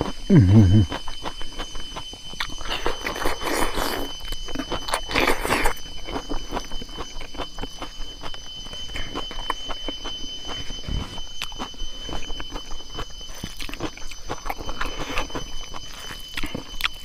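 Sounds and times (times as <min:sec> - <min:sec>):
chewing and mouth clicks: 0:00.0 - 0:17.0
faint high whine: 0:00.0 - 0:17.0.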